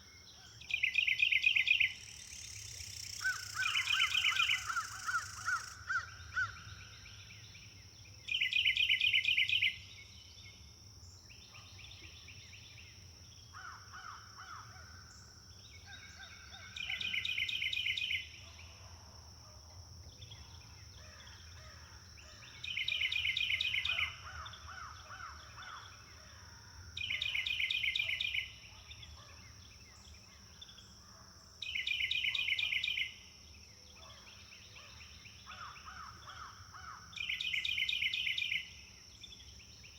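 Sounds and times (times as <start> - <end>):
faint varied birdsong: 0.0 - 39.9.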